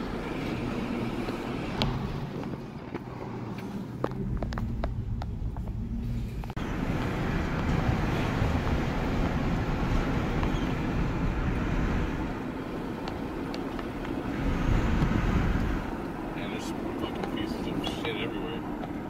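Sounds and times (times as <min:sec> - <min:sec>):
road and wind noise in vehicle: 0:00.0 - 0:19.0
tyres and engine rumbling: 0:00.0 - 0:19.0.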